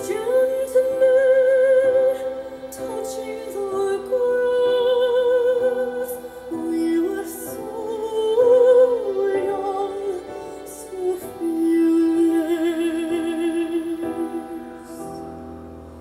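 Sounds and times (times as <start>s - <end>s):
woman singing operatically: 0.0s - 15.2s
soft musical accompaniment: 0.0s - 16.0s.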